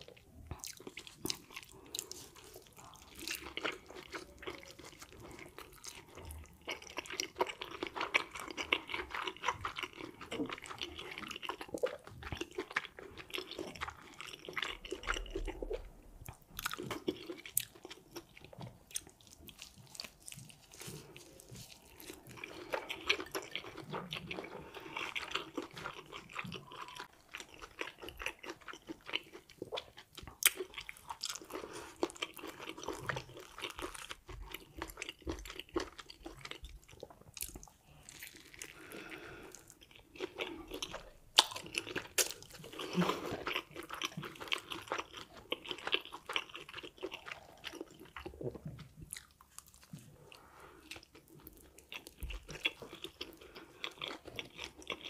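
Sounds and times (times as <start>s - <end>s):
person chewing crispy food: 0.0s - 55.0s.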